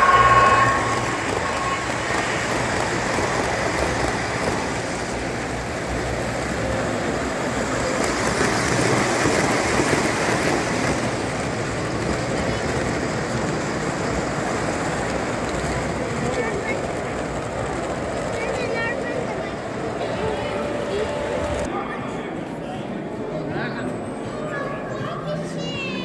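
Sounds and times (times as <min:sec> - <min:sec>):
model trains rumbling on track: 0:00.0 - 0:21.7.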